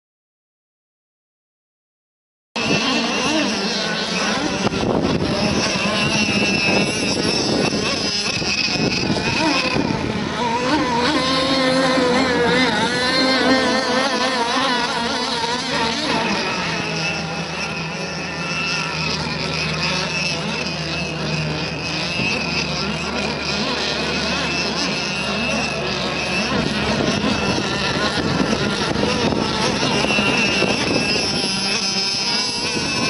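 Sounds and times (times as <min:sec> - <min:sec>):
racing boat engines buzzing: 0:02.6 - 0:33.0.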